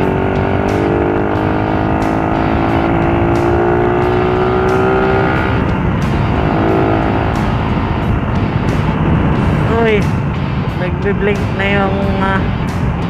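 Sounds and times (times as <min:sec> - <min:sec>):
motorcycle engine accelerating: 0:00.0 - 0:13.0
wind rushing over microphone: 0:00.0 - 0:13.0.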